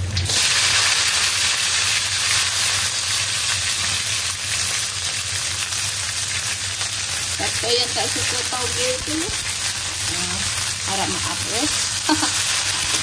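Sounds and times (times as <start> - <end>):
bean sprouts sizzling in oil: 0.0 - 13.0.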